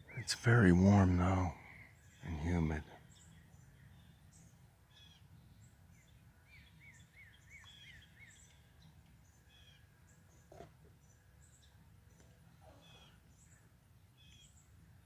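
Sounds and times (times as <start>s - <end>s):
faint songbirds chirping: 0.0s - 15.0s.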